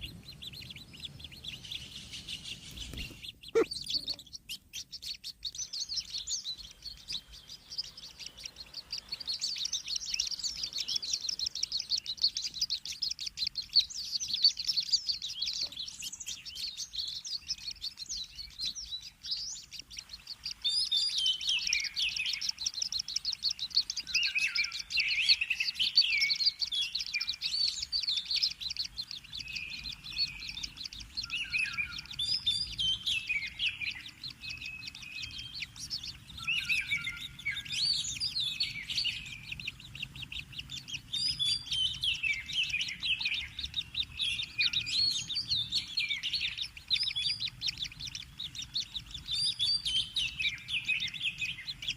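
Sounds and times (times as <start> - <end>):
chicks chirping: 0.0 - 51.9.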